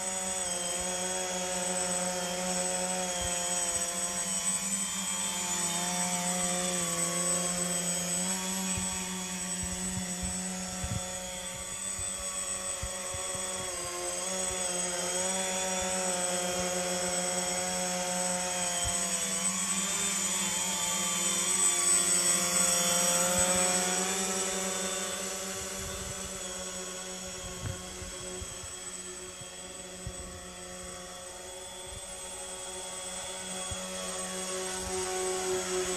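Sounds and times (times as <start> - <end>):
electric motors and propellers whining: 0.0 - 35.9.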